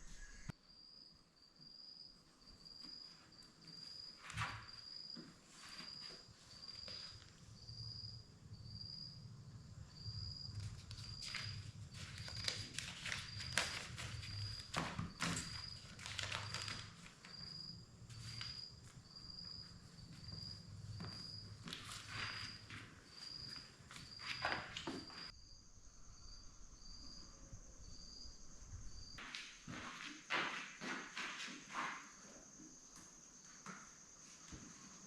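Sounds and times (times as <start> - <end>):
insect chirping: 0.0 - 35.0.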